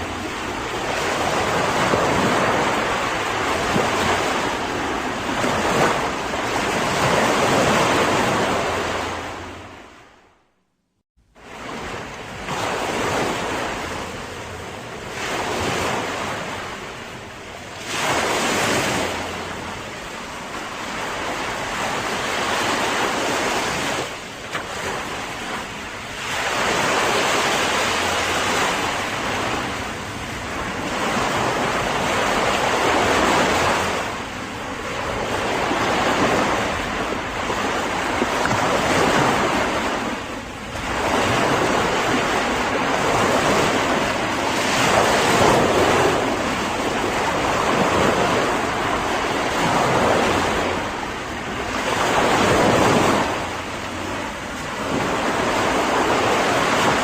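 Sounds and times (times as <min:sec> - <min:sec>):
ocean waves breaking: 0:00.0 - 0:10.5, 0:11.2 - 0:57.0.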